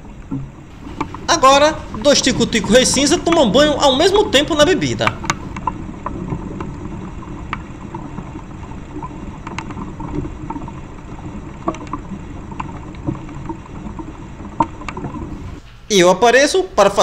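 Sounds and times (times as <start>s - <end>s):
steady low rumble: 0.0s - 15.9s.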